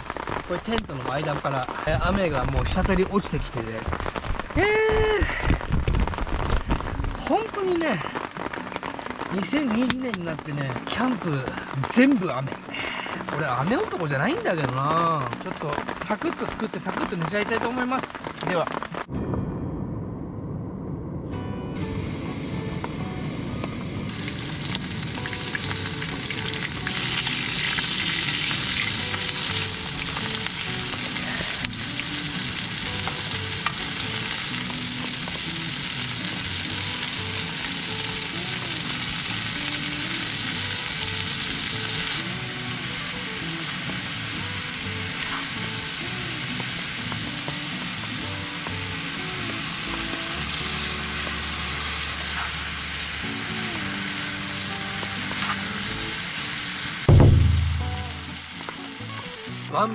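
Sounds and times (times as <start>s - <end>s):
food sizzling in a pan: 0.0s - 19.1s, 21.8s - 59.9s.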